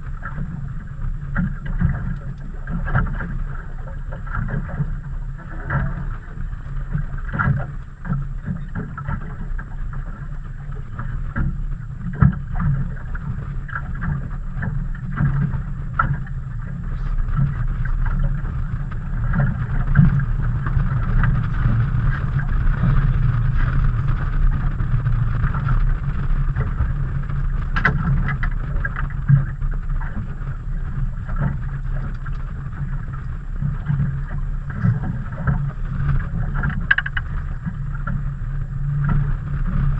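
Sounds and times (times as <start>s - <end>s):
wind and water rumble: 0.0s - 39.9s.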